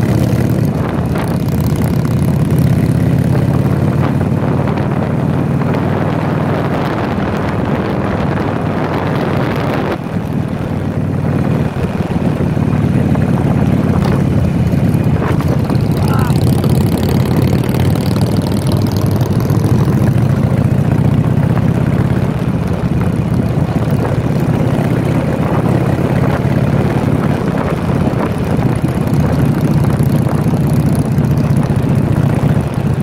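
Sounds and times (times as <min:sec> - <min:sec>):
motorcycle engines running: 0:00.0 - 0:33.0
rushing wind noise: 0:00.0 - 0:33.0.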